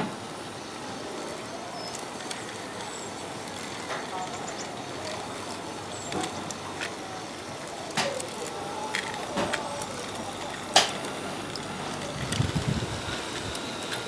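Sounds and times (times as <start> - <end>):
model train rolling on track: 0.0 - 14.0
steady outdoor hiss: 0.0 - 14.0
wheels clicking on rails: 0.0 - 14.0.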